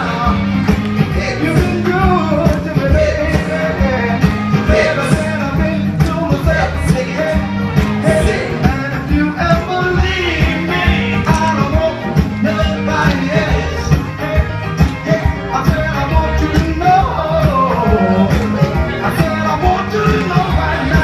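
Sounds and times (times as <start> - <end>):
live rock and roll band: 0.0 - 21.0
person singing: 0.0 - 21.0.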